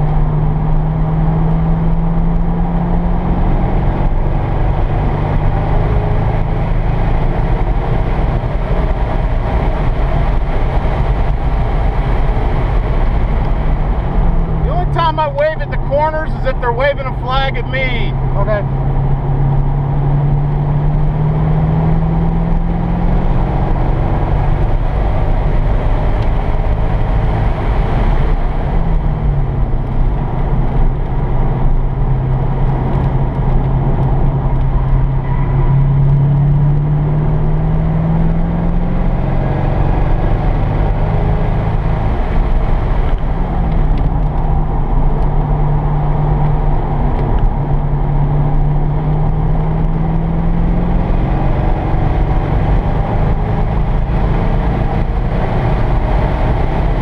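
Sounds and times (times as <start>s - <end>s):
car engine under acceleration: 0.0s - 57.0s.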